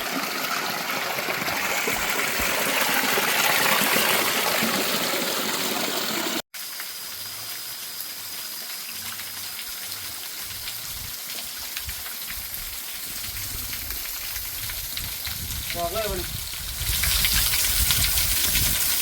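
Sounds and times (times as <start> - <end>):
flowing water hiss: 0.0 - 19.0.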